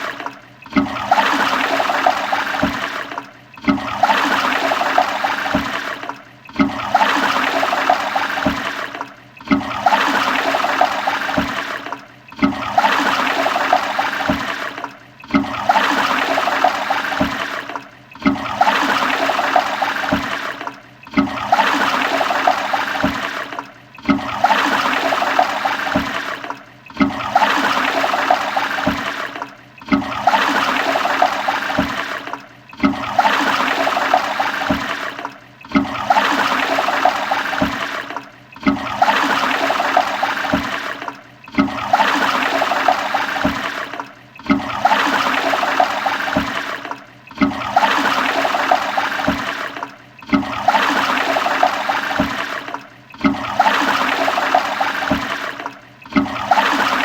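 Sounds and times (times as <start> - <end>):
toilet flushing: 0.0 - 57.0.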